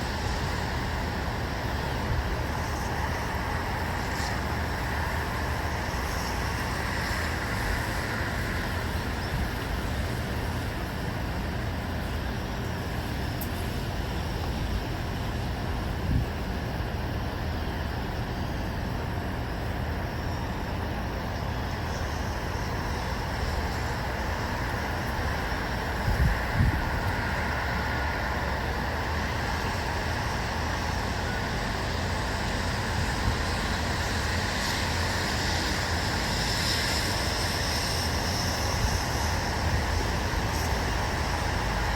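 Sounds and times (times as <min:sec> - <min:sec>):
distant road traffic rumble: 0:00.0 - 0:41.9.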